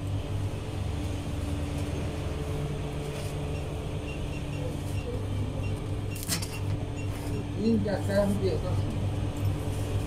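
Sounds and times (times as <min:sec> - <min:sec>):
bread oven machine hum: 0:00.0 - 0:10.0.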